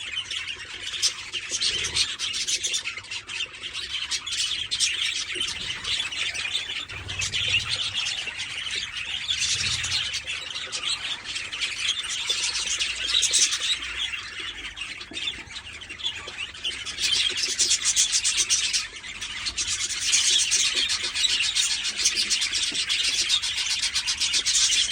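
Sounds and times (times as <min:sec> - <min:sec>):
budgerigar chicks chirping: 0:00.1 - 0:24.9.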